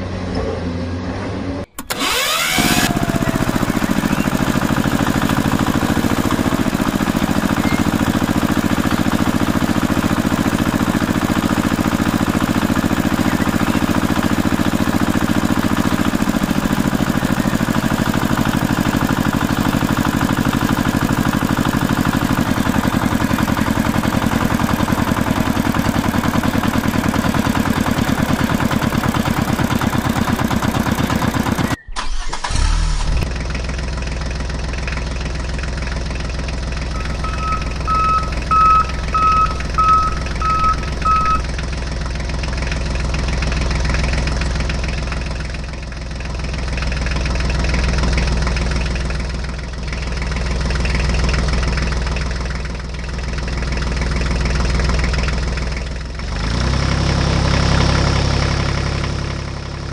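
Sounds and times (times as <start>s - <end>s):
dull engine sound: 0.0s - 59.9s
tractor engine chugging: 1.7s - 59.9s.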